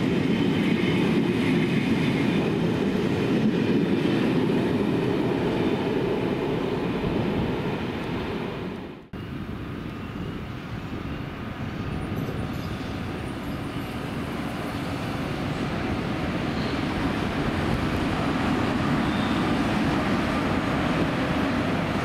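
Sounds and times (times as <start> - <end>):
train passing rumble: 0.0 - 22.0.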